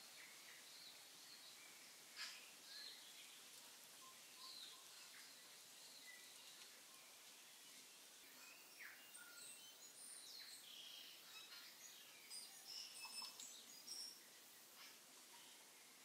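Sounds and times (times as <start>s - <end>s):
birds chirping: 0.0s - 16.0s
low hiss: 0.0s - 16.0s.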